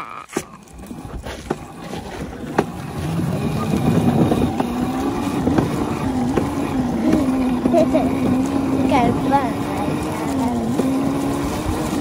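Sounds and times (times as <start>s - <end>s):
small motorbike engine pulling away: 0.0s - 12.0s.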